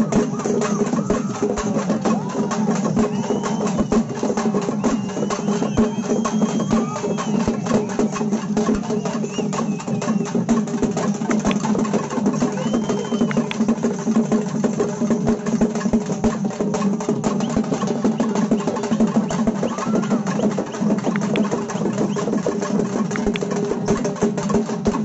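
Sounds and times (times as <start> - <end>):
fast dense drumming: 0.0 - 25.0.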